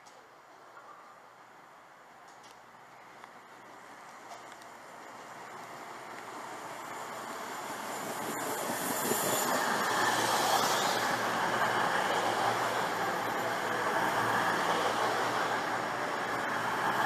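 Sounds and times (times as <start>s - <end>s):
diesel train passing: 2.7s - 17.0s.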